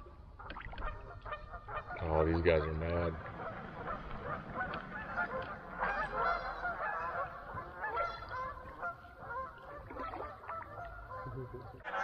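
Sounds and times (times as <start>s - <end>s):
geese honking: 0.3s - 12.0s.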